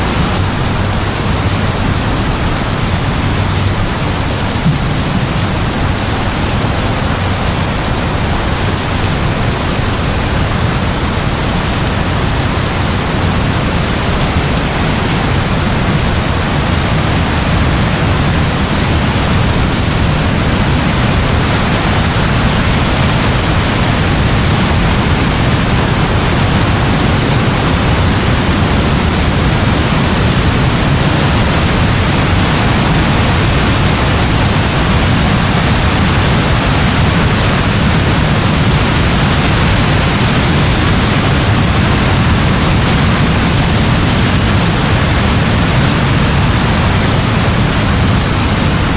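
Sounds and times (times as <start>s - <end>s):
heavy rain pouring: 0.0s - 48.9s
low rumble: 0.0s - 48.9s.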